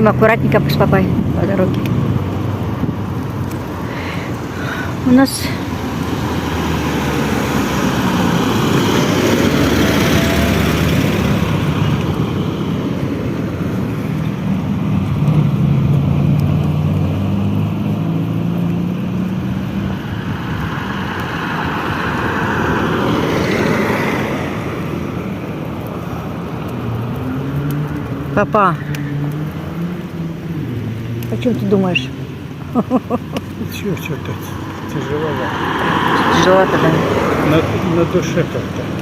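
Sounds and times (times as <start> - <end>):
car engine hum: 0.0 - 39.0
tyre and road noise: 0.0 - 39.0.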